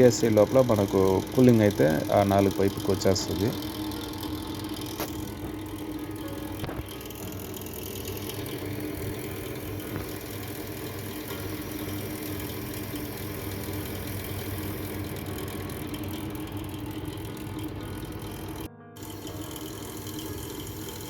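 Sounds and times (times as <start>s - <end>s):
freezer compressor humming: 0.0s - 21.0s.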